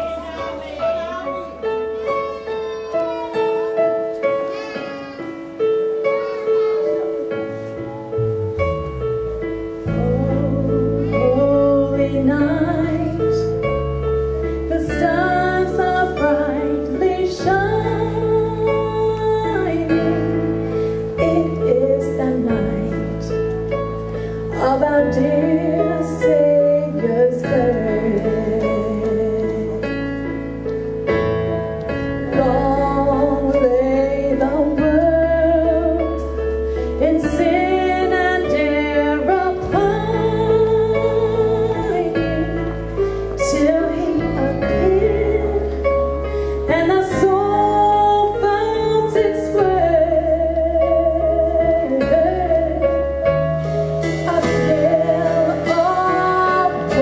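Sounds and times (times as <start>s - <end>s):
bass and keyboard backing track: 0.0s - 57.0s.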